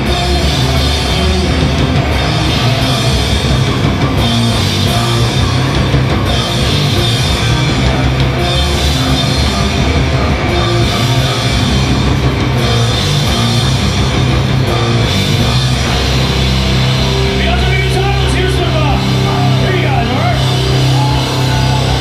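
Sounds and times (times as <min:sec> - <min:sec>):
heavy rock band playing: 0:00.0 - 0:22.0.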